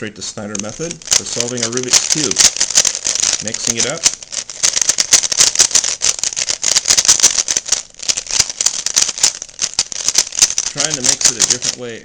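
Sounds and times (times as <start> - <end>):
puzzle cube clicking as turned: 0.5 - 11.8.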